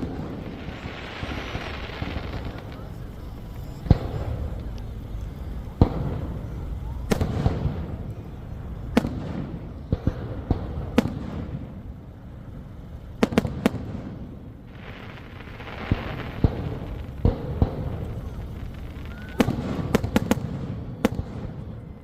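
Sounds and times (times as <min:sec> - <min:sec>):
fireworks hissing crackle: 0:00.0 - 0:10.2, 0:10.8 - 0:21.8
fireworks bursting: 0:00.0 - 0:22.0.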